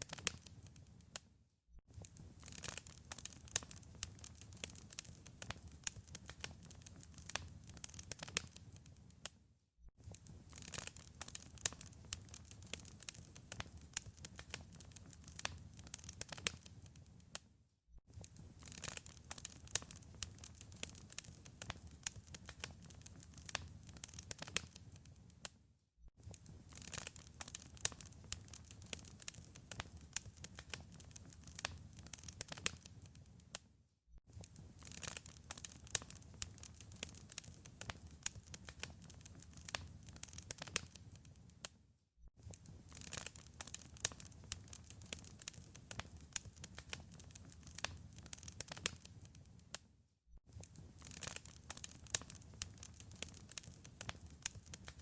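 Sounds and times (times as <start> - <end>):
wood fire crackling: 0.0 - 1.1, 2.0 - 9.3, 10.0 - 17.4, 18.1 - 25.5, 26.2 - 33.6, 34.3 - 41.7, 42.4 - 49.7, 50.5 - 55.0.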